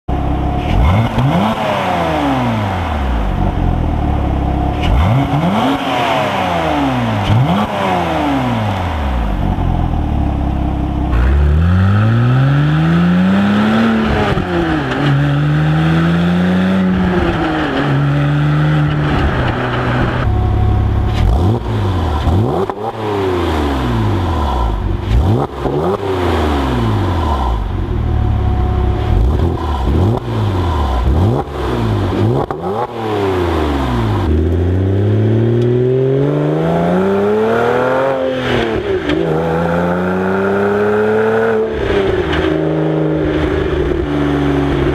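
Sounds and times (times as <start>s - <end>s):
car exhaust revving: 0.1s - 44.9s
car accelerating with upshifts: 0.2s - 44.9s.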